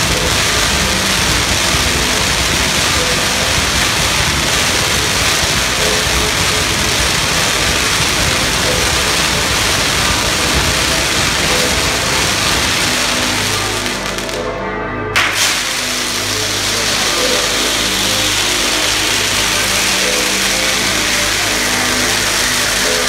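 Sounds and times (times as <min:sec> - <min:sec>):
fireworks crackling and hissing: 0:00.0 - 0:14.5, 0:15.2 - 0:23.0.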